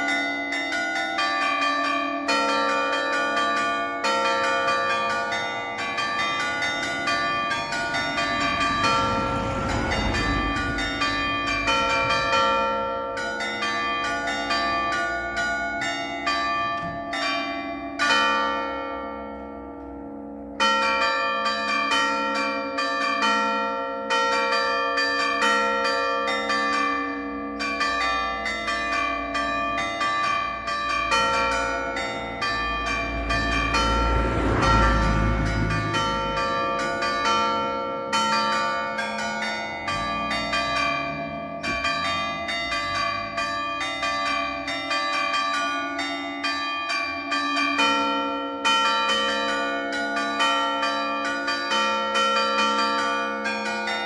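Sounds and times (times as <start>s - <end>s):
church bells playing a melody: 0.0s - 54.0s.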